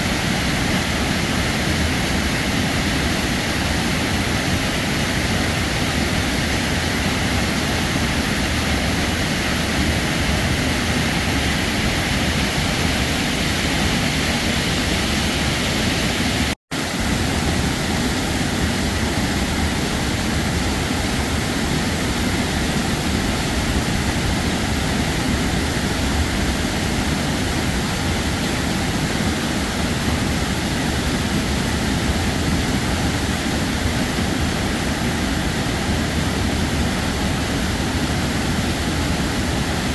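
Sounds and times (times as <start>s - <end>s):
heavy waterfall pouring: 0.0s - 39.9s.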